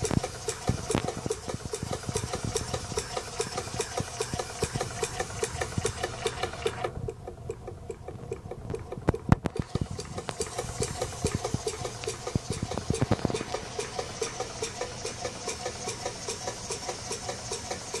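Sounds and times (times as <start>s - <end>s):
miniature engine running: 0.0s - 18.0s.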